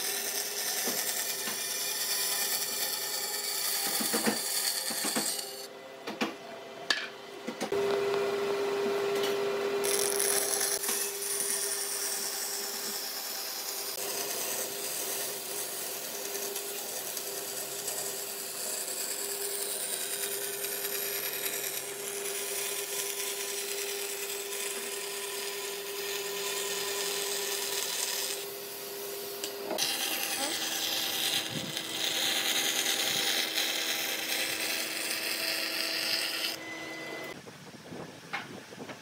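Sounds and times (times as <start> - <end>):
power tool working wood: 0.0 - 5.7, 7.7 - 37.4.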